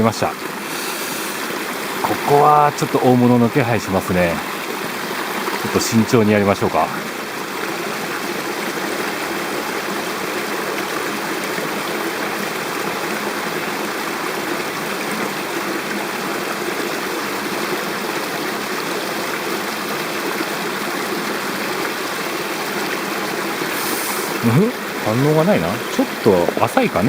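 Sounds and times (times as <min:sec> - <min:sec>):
stream water rushing: 0:00.0 - 0:27.0.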